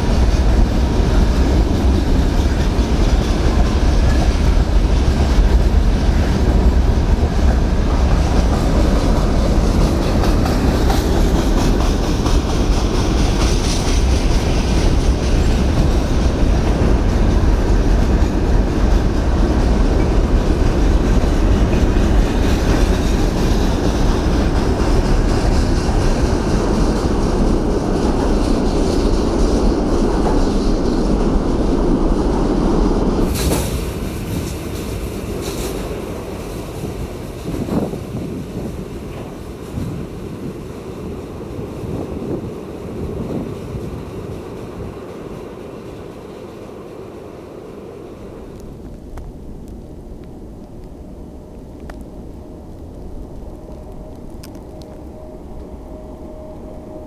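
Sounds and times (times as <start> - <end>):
train wheels clattering on rails: 0.0 - 47.0, 48.2 - 57.0.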